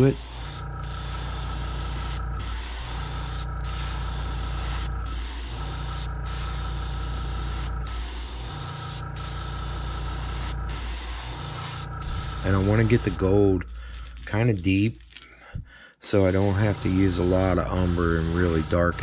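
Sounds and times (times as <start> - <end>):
airbrush hissing: 0.0 - 13.8, 16.1 - 19.0
steady low hum: 0.0 - 19.0.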